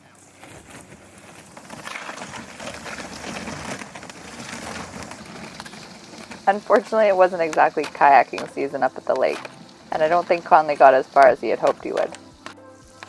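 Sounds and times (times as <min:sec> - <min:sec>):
paddle splashing water: 0:00.3 - 0:13.0.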